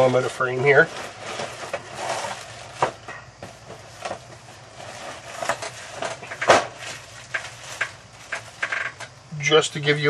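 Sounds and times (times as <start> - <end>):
faint rustle: 0.0 - 9.0.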